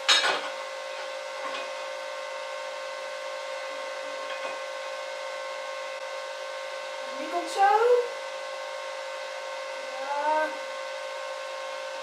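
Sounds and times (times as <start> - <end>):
electric blower fan whirring: 0.0 - 12.0.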